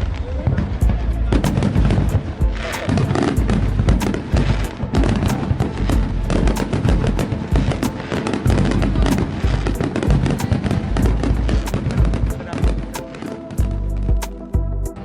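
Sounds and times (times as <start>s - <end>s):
fireworks bangs and crackles: 0.0s - 13.6s
music with heavy bass: 0.8s - 15.0s.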